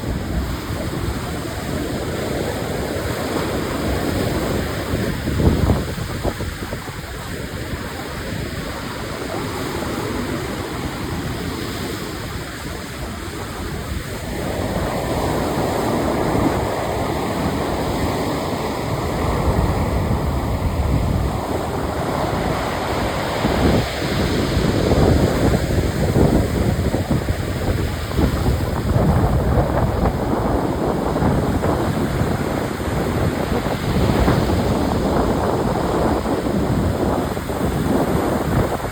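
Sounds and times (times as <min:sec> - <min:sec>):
sea surf washing ashore: 0:00.0 - 0:38.9
wind buffeting microphone: 0:00.0 - 0:38.9.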